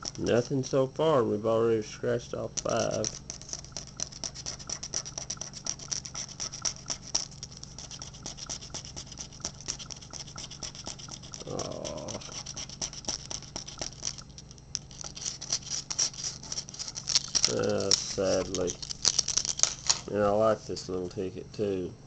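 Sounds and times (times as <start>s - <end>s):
lottery ticket being scratched: 0.0s - 0.9s, 2.4s - 20.4s.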